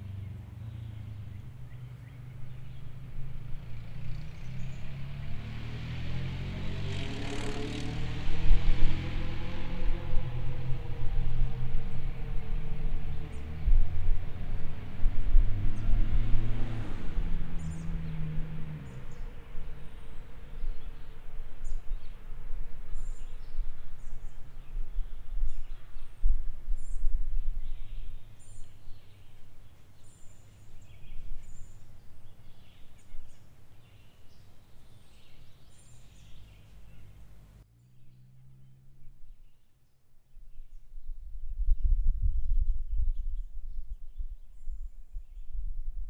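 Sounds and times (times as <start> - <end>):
birds chirping: 0.0 - 14.9, 15.5 - 40.8.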